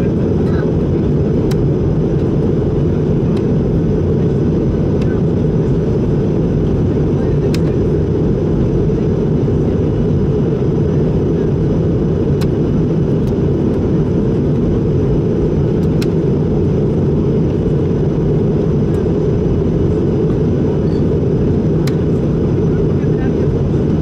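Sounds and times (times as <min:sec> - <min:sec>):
airliner cabin roar: 0:00.0 - 0:24.0.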